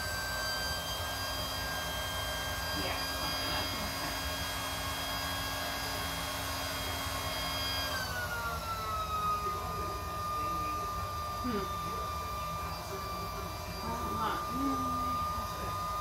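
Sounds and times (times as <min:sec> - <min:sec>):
portable air pump motor whine: 0:00.0 - 0:16.0.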